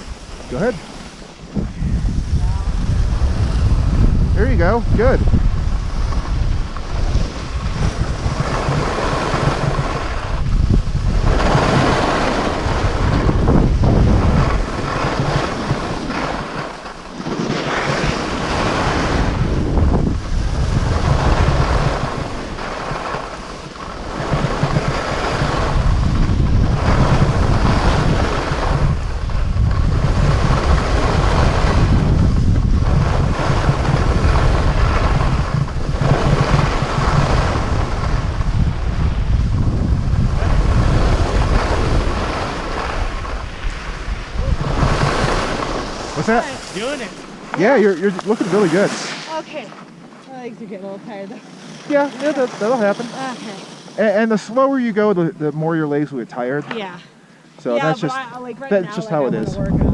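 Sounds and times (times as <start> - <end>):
wind buffeting a microphone: 0.0 - 56.4, 57.5 - 59.9.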